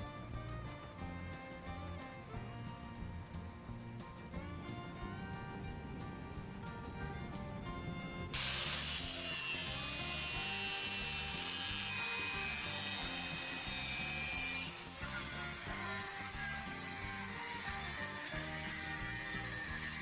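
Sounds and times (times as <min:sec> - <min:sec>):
background music: 0:00.0 - 0:20.0
power tool whining on metal: 0:00.0 - 0:20.0.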